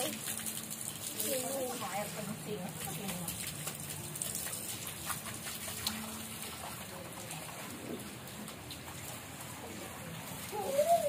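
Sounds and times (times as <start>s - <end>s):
water splashing on concrete: 0.0s - 11.0s.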